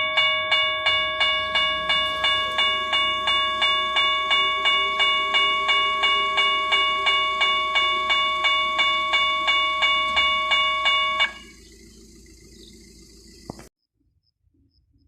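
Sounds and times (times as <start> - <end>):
level-crossing warning bell ringing: 0.0 - 13.5.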